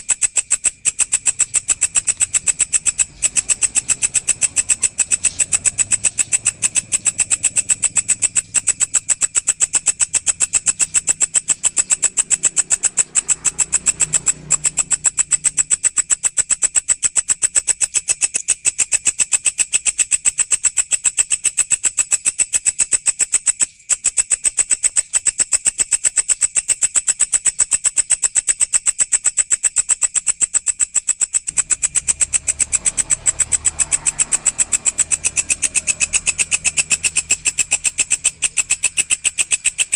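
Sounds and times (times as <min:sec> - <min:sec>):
insect stridulating buzz: 0:00.0 - 0:39.9.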